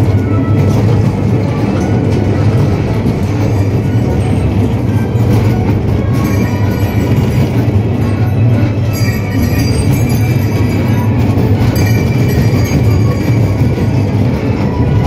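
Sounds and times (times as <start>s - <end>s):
faint ride music: 0.0s - 15.0s
ride car rumbling on track: 0.0s - 15.0s.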